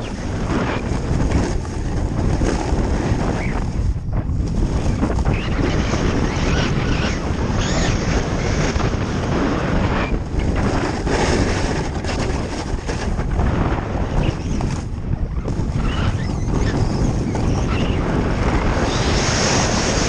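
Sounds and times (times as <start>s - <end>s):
snowboard scraping snow: 0.0s - 20.0s
wind buffeting microphone: 0.0s - 20.0s.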